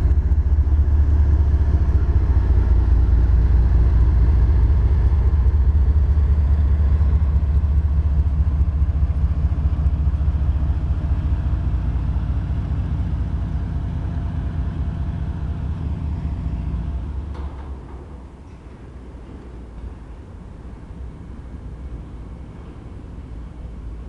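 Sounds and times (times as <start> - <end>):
freight train wheels rumbling on rails: 0.0 - 24.0.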